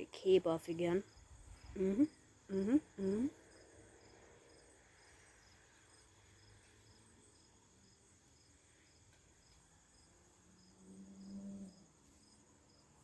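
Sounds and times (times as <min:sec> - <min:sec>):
faint cricket chirping: 0:00.0 - 0:13.0.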